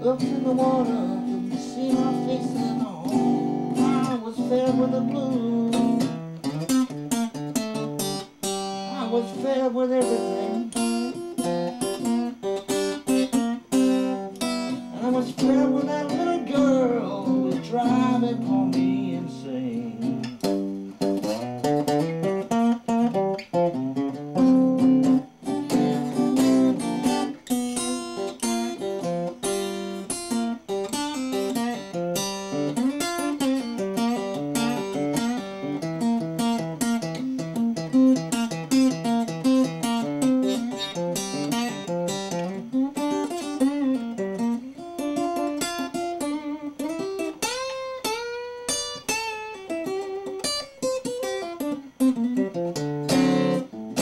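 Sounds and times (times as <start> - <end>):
fingerpicked acoustic guitar: 0.0 - 54.0.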